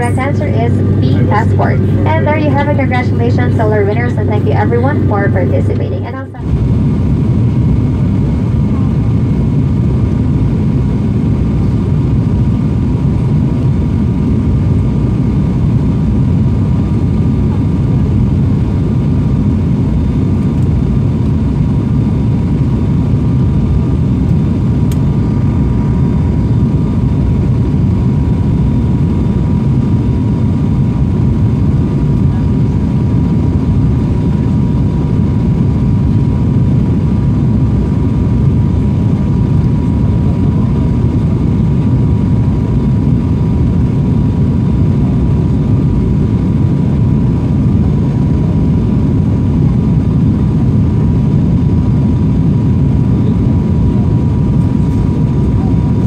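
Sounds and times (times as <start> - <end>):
faint steady whine: 0.0 - 56.0
turboprop engine and propeller rumble: 0.0 - 56.0.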